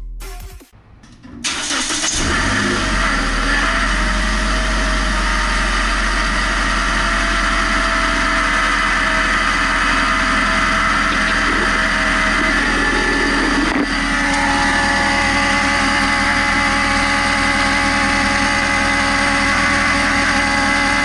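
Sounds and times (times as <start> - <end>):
car engine running: 0.8 - 21.0
high whine from water pump: 1.0 - 21.0.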